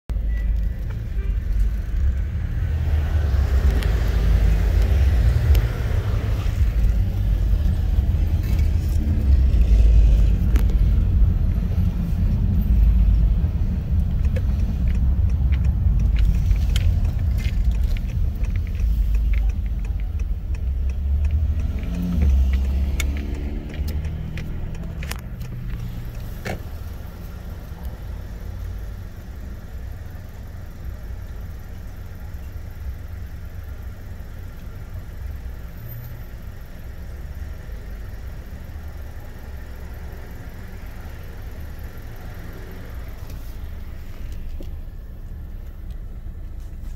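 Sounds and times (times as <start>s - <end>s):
car engine low rumble: 0.1s - 46.9s.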